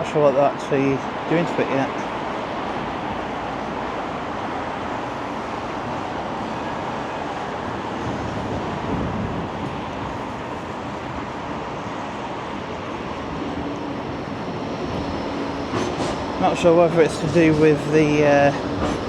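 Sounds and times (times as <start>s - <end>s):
road traffic rushing: 0.0s - 19.0s.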